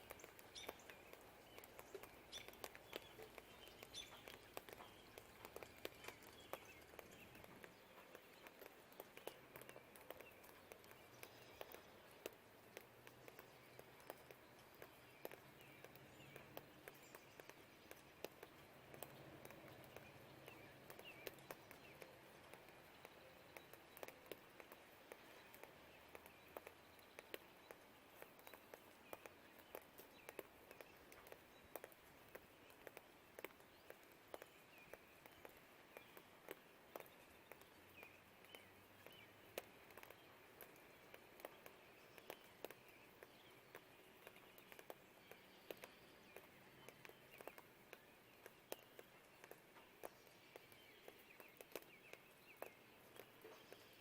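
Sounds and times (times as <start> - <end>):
faint birdsong: 0.0 - 54.0
rain drips on hard surface: 0.0 - 54.0
soft rain hiss: 0.0 - 54.0.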